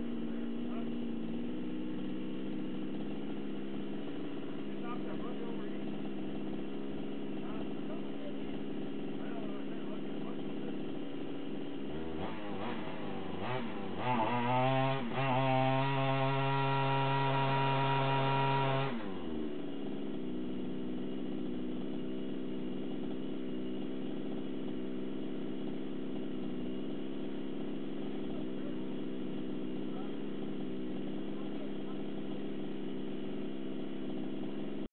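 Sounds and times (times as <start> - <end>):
two-stroke engine revving: 0.0 - 34.9
wheels spinning in dirt: 5.8 - 34.9.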